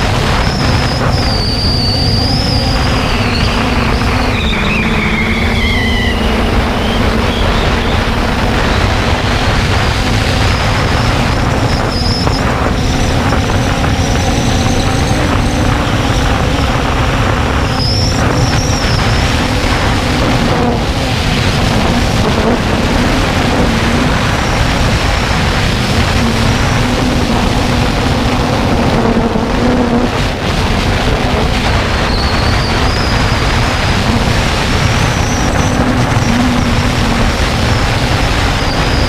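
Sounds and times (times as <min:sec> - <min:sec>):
drone motors buzzing: 0:00.0 - 0:39.0
wind rushing: 0:00.0 - 0:39.0.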